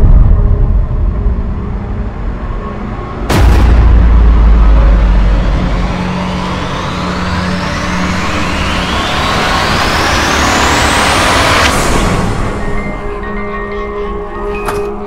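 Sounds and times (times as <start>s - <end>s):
deep rumble of hit: 0.0s - 12.6s.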